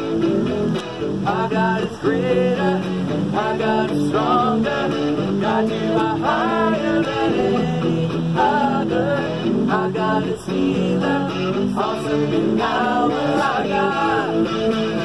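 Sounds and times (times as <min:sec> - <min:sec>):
electric guitar through amplifier: 0:00.0 - 0:15.0
person singing: 0:01.2 - 0:15.0.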